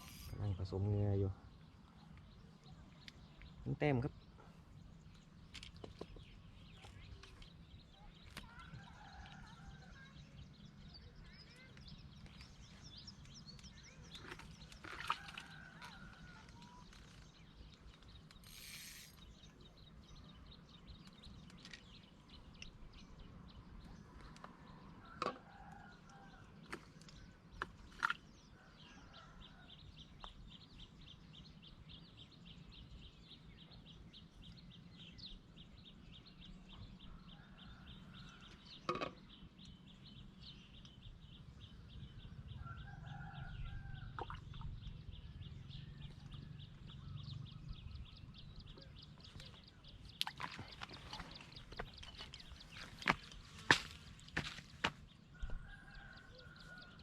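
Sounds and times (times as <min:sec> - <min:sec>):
bird calls: 0:00.0 - 0:57.0.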